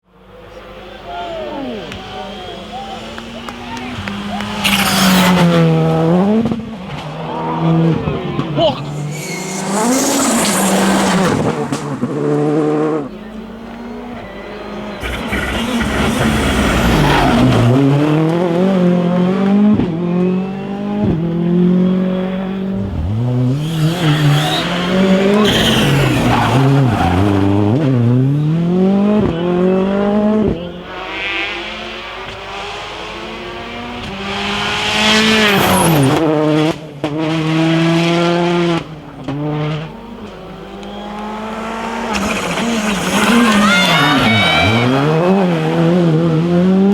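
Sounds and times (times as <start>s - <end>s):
cars passing: 0.1s - 46.9s
rally car engines revving: 0.1s - 46.9s.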